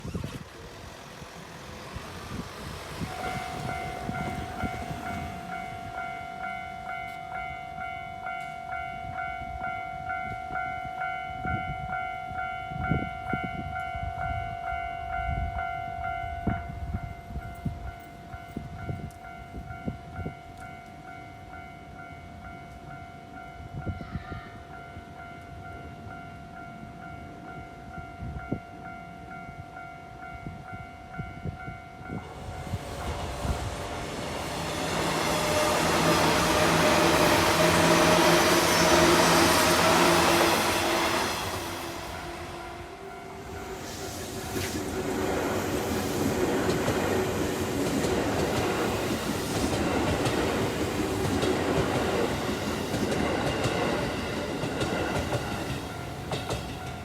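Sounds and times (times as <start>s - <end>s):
passing train rumble: 0.0s - 57.0s
level crossing warning bell: 0.9s - 44.6s, 46.2s - 57.0s.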